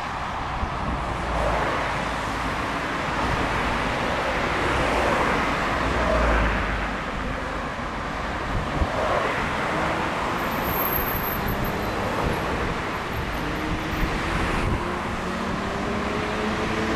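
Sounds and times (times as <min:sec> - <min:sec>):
road traffic: 0:00.0 - 0:16.9.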